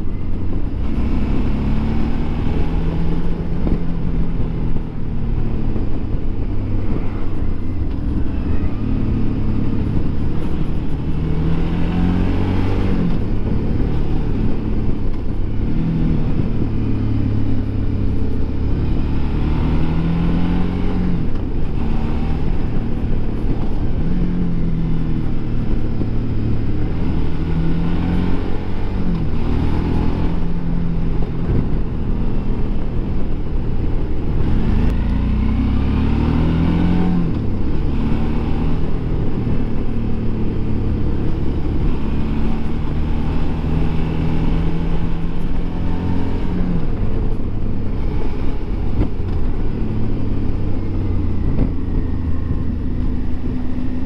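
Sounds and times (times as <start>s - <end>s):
motorcycle engine revving: 0.6s - 54.0s.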